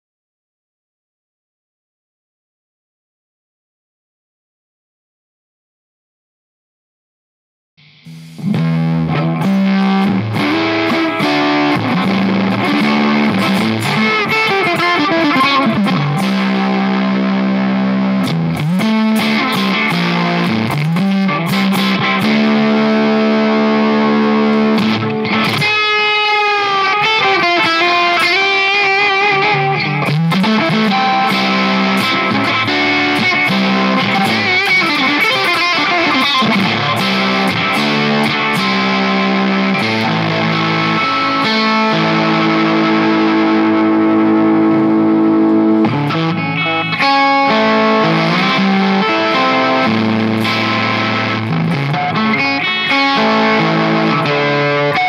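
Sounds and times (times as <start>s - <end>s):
electric guitar playing: 7.8s - 55.0s.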